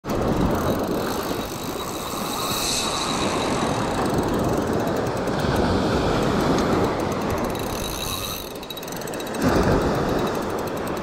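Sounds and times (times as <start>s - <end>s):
wind rumble on microphone: 0.0s - 11.0s
small waves washing ashore: 0.1s - 11.0s.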